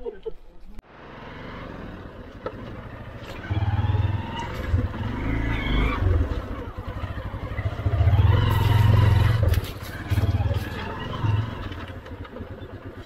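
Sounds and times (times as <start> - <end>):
motorcycle engine running: 1.1 - 13.0.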